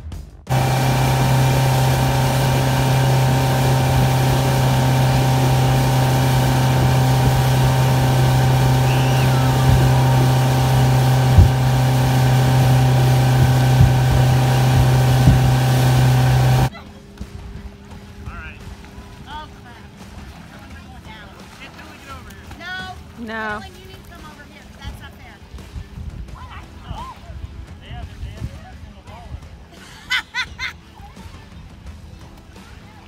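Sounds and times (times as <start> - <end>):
outboard motor droning: 0.5 - 27.8
wind and water rushing: 0.5 - 29.8.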